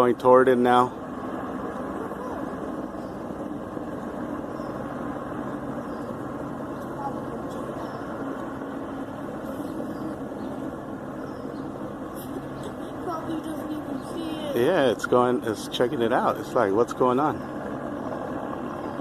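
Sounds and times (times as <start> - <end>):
distant helicopter drone: 0.0 - 19.0.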